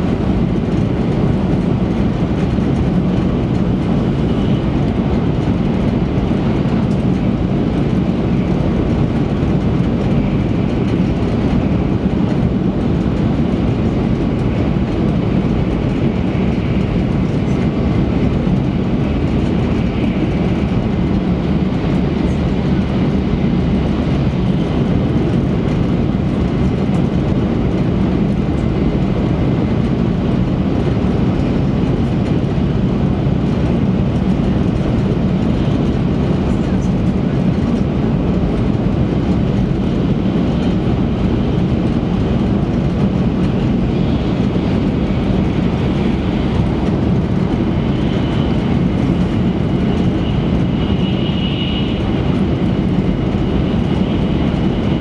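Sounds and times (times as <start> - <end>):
train cabin running noise: 0.0 - 55.0.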